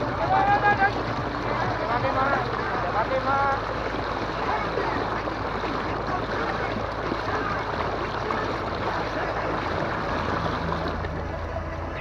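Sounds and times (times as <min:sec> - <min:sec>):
electric outboard motor hum: 0:00.0 - 0:12.0
water splashing against boat hull: 0:00.0 - 0:12.0.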